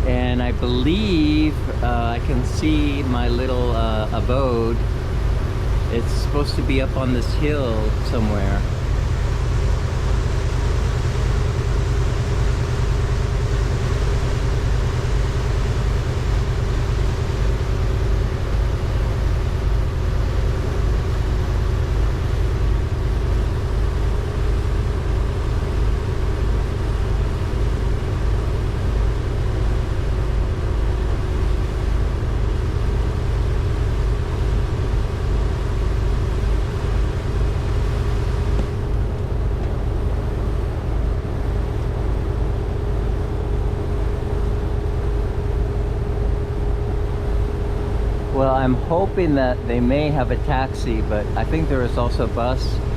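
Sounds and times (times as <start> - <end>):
ferry engines rumbling: 0.0 - 52.9.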